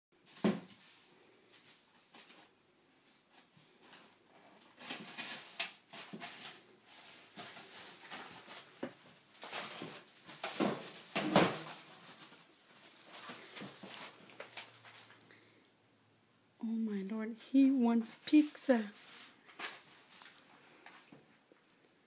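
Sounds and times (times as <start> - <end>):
cat rustling and scraping: 0.2 - 15.2, 18.0 - 21.3.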